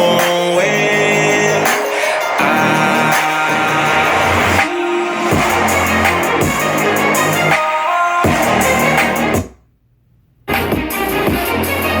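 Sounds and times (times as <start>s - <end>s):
hip hop music through speaker: 0.0s - 9.6s, 10.5s - 12.0s.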